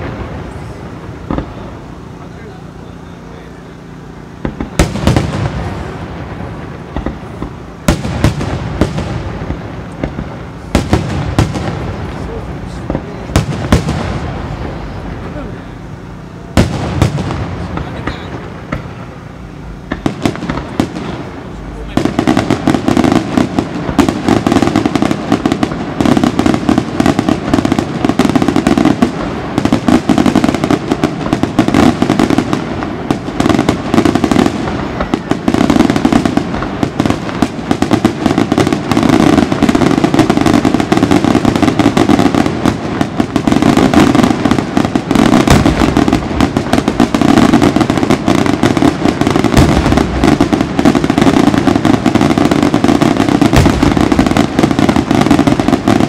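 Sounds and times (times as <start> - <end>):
firework bangs: 0.0 - 56.0
fireworks crackling: 0.0 - 56.0.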